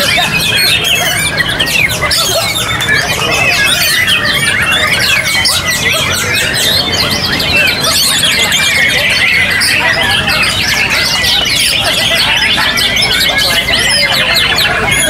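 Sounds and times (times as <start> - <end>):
many songbirds singing: 0.0 - 15.0.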